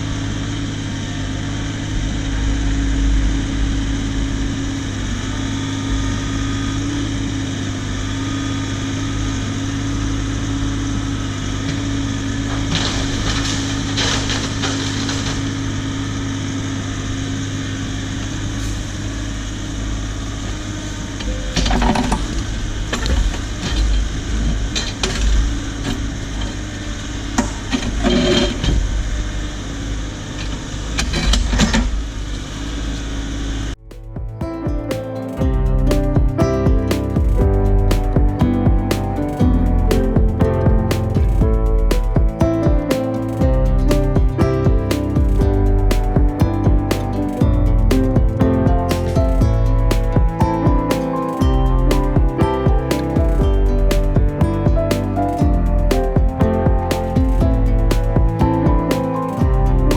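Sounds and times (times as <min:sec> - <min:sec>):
diesel engine running: 0:00.0 - 0:27.3, 0:31.8 - 0:59.9.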